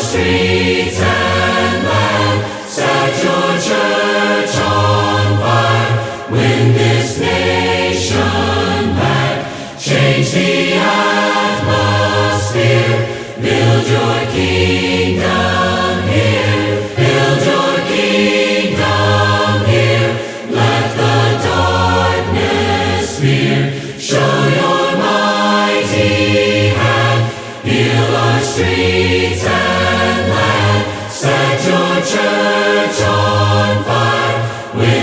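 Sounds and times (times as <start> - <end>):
congregation singing in harmony: 0.0 - 35.0.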